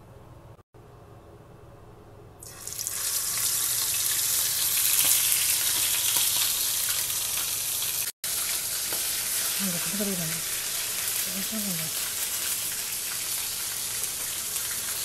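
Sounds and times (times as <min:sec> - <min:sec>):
fish roe sizzling in oil: 0:02.4 - 0:15.0.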